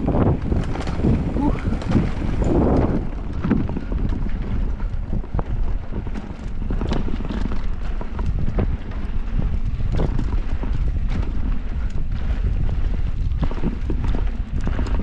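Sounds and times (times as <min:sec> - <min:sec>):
bike knocks and rattles: 0:00.0 - 0:15.0
wind rumble on microphone: 0:00.0 - 0:15.0.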